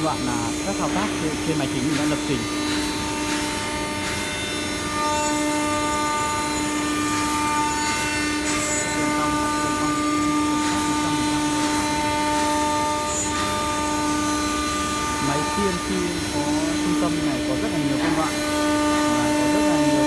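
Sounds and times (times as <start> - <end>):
wood machining centre running: 0.0 - 20.0.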